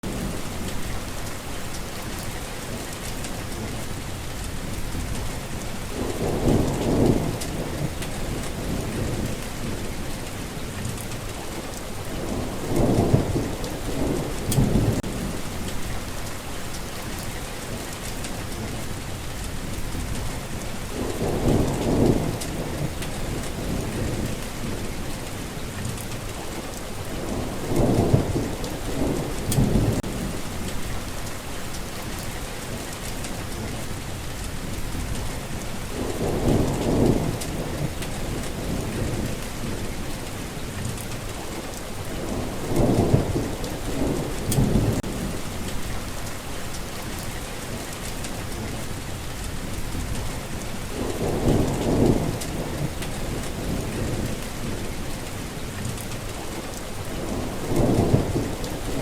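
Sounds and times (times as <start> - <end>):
rain falling: 0.0 - 59.0
rolling thunder: 4.5 - 11.2, 12.0 - 18.8, 19.5 - 26.2, 27.0 - 33.8, 34.5 - 41.2, 42.0 - 48.8, 49.5 - 59.0.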